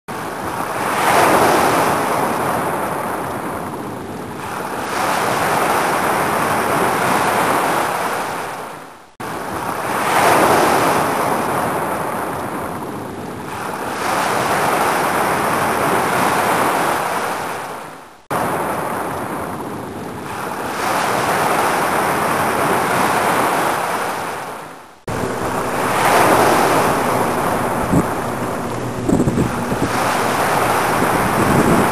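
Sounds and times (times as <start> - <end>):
ocean waves washing in: 0.1 - 31.9.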